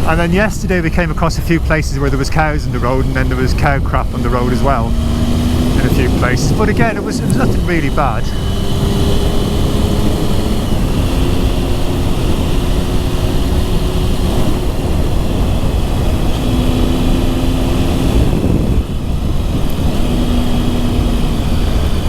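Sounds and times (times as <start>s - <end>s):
motorcycle engine running: 0.0s - 22.0s
wind and road rush: 0.0s - 22.0s.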